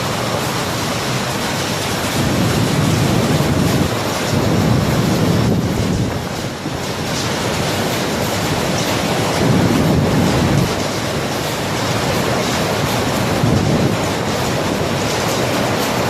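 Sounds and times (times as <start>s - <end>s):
heavy rain: 0.0s - 16.0s
storm wind: 0.0s - 16.0s.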